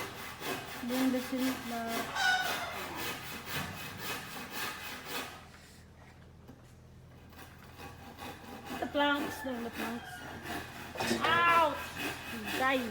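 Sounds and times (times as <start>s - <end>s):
rasping strokes on wooden planks: 0.0s - 5.9s, 7.2s - 12.9s.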